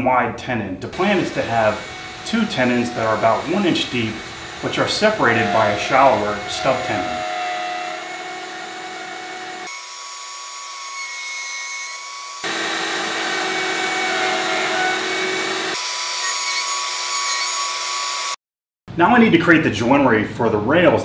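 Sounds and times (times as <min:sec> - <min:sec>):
router motor whining: 0:01.0 - 0:18.4.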